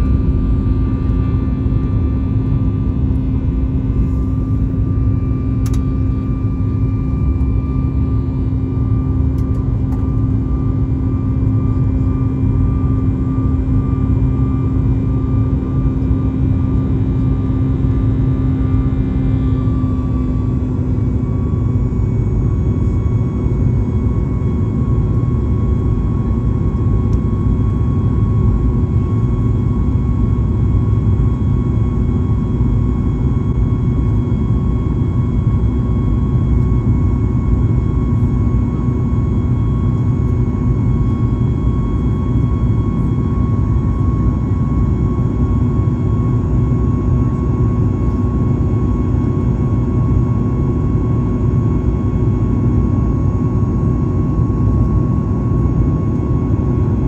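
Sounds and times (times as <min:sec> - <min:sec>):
jet cabin noise: 0:00.0 - 0:57.0.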